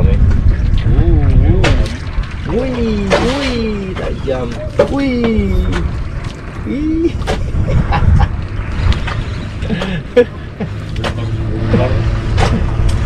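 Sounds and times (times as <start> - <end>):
engine hum: 0.0 - 13.0
motor rumble: 0.0 - 13.0
wind: 0.0 - 13.0.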